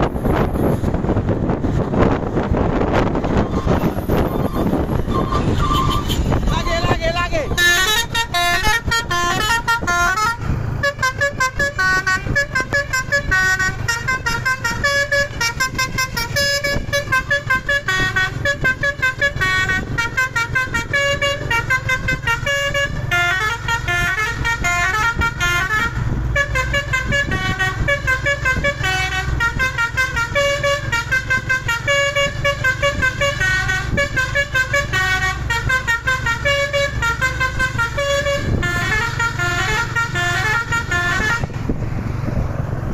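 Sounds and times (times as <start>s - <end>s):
truck engine running: 0.0s - 42.9s
multi-tone air horn melody: 3.6s - 6.9s, 7.5s - 41.6s.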